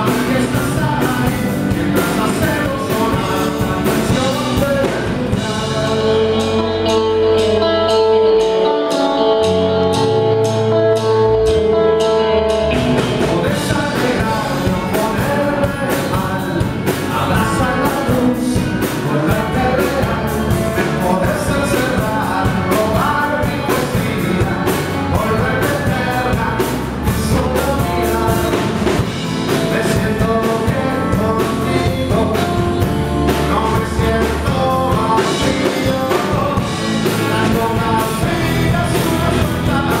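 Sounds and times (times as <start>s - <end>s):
live rock band with singer: 0.0s - 40.0s.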